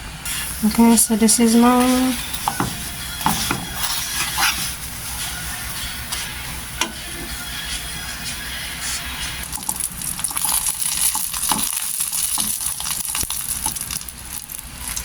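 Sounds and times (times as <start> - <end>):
taco shell sizzling in pot: 0.3 - 15.0.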